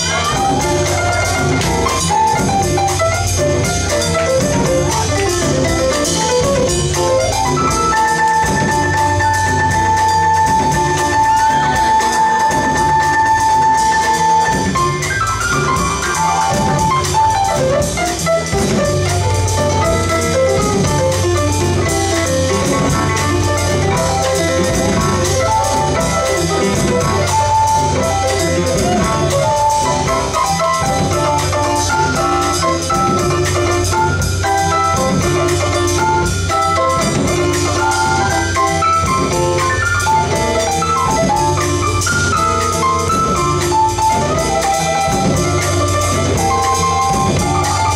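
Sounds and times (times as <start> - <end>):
drum kit: 0.0 - 47.9
piano: 0.0 - 47.9
upright double bass: 0.0 - 47.9.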